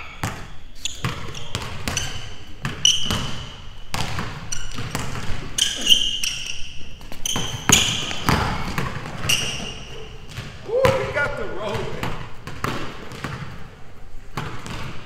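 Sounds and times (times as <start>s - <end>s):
basketball bouncing on wooden floor: 0.0s - 5.9s, 7.0s - 15.0s
sneaker squeaks: 0.0s - 13.6s.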